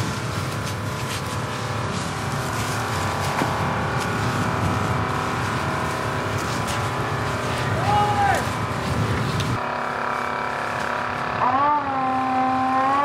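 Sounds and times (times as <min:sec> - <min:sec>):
fire pump engine running: 0:00.0 - 0:13.0.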